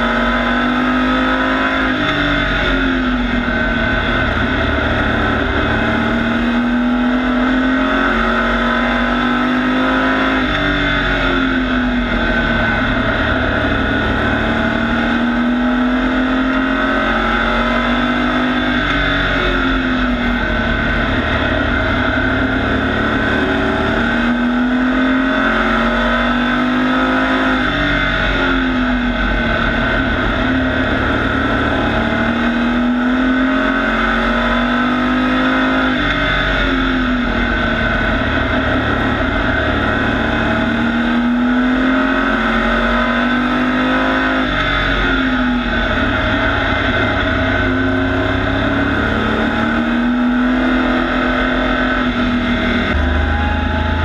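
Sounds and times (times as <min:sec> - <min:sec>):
race truck engine revving: 0:00.0 - 0:54.0.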